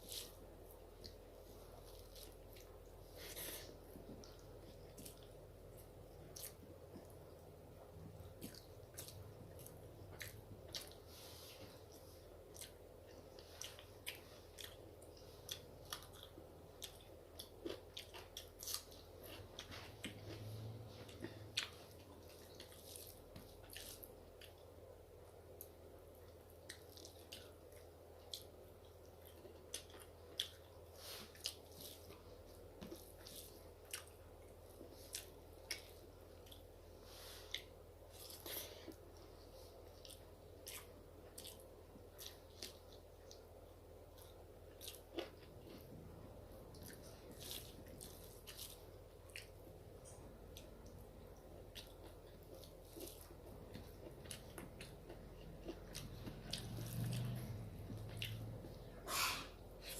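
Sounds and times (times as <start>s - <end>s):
faint steady hum: 0.0s - 59.9s
person chewing and eating: 0.0s - 59.9s.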